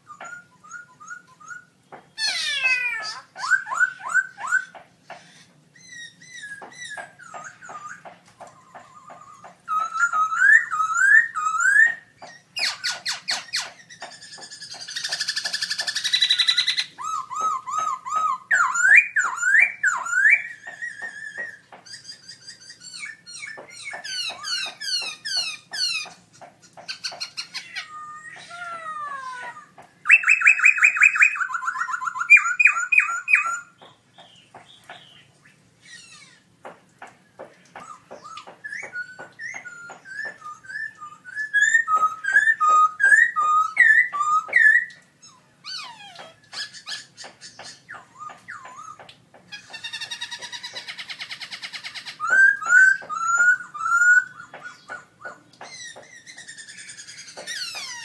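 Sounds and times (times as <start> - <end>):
bird singing whistled song: 0.0 - 4.8, 5.8 - 26.2, 26.9 - 35.3, 37.8 - 45.0, 46.9 - 58.0.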